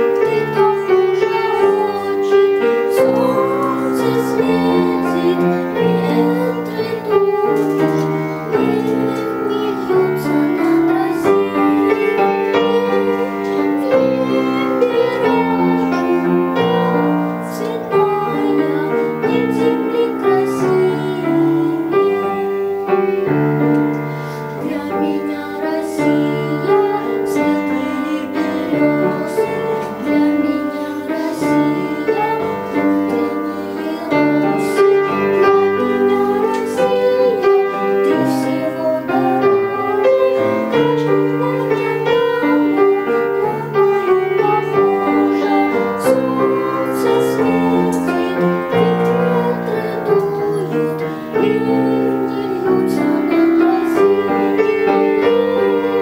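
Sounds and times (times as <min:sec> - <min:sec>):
girl singing: 0:00.0 - 0:56.0
grand piano accompaniment: 0:00.0 - 0:56.0.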